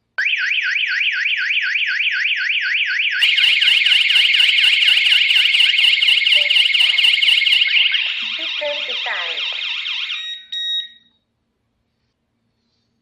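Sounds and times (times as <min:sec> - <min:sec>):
second louder siren: 0:00.2 - 0:11.0
electronic alarm siren warble: 0:00.2 - 0:11.1.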